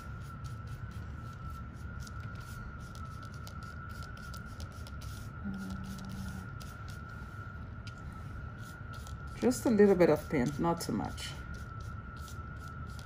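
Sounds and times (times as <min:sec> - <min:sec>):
paintbrush scratching on paper: 0:00.0 - 0:07.1, 0:08.6 - 0:13.0
steady low hum: 0:00.0 - 0:13.0
thin high-pitched whine: 0:00.0 - 0:13.0.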